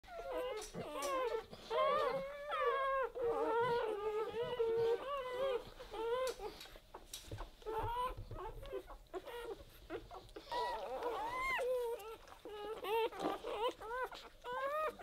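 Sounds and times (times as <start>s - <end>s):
puppy crying: 0.1s - 15.0s.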